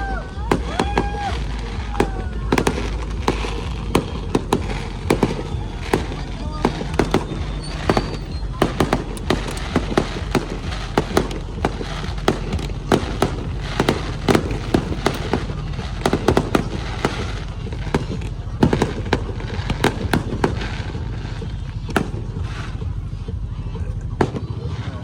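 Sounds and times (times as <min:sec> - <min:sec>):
low rumble: 0:00.0 - 0:24.9
fireworks bangs and crackles: 0:00.0 - 0:25.0.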